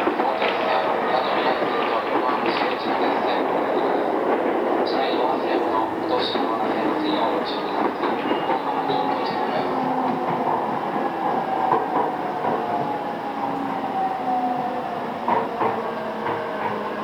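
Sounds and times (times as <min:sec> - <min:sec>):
train wheels clacking over rail joints: 0:00.0 - 0:14.1, 0:15.2 - 0:17.0.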